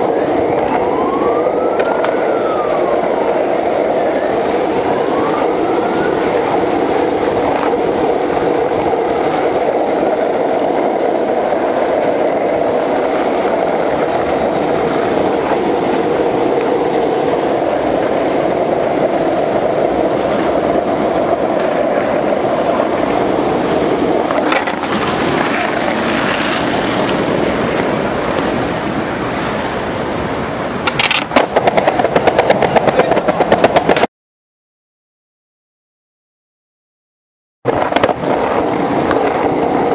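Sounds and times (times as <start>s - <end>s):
skateboard wheels clacking over joints: 0.0s - 34.1s, 37.7s - 39.9s
skateboard wheels rolling: 0.0s - 34.1s, 37.7s - 39.9s.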